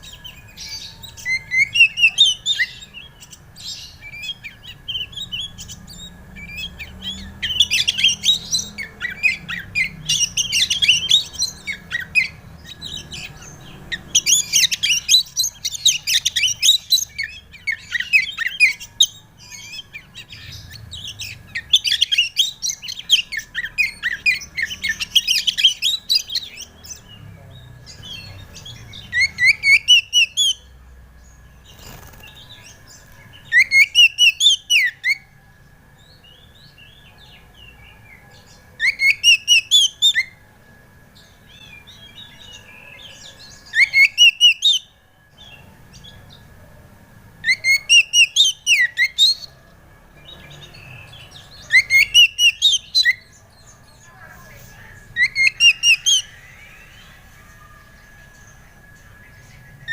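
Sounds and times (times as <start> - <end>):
magpie-robin singing: 0.0 - 35.4, 36.0 - 40.5, 41.1 - 46.6, 47.3 - 59.9.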